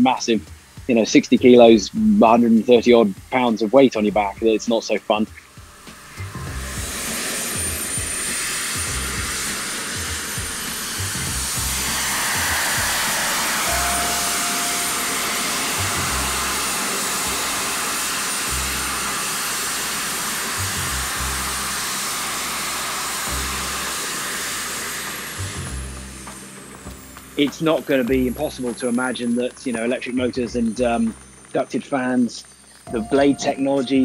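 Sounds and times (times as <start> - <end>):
jet suit fans whirring: 0.0 - 34.0.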